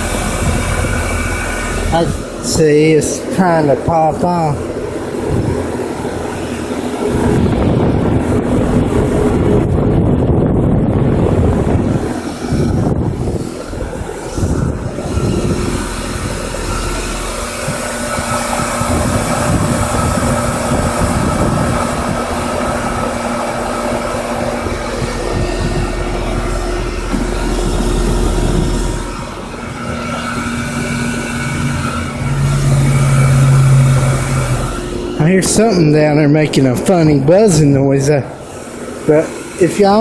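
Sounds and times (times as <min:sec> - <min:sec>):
heat pump compressor and fan: 0:00.0 - 0:40.0.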